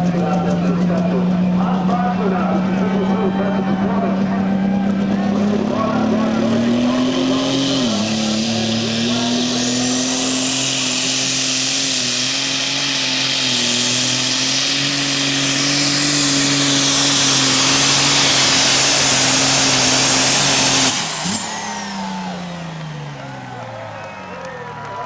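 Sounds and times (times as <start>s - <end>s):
engine winding down: 0.0s - 25.0s
tractor engine at full power: 0.0s - 25.0s.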